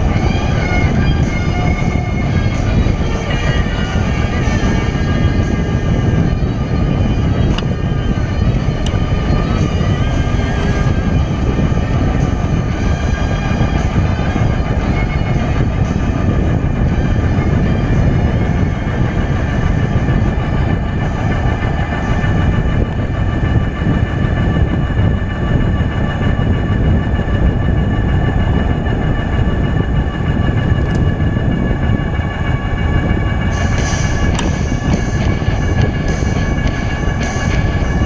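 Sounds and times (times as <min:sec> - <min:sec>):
high whine of steady tones: 0:00.0 - 0:38.0
low rumble of bike riding: 0:00.0 - 0:38.0
wind rush: 0:00.0 - 0:38.0.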